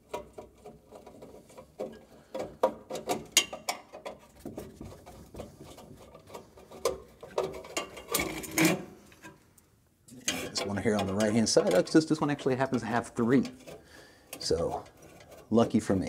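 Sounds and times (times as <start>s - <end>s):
screwdriver clicking and scraping metal: 0.0s - 4.4s, 5.0s - 9.4s, 10.1s - 16.0s.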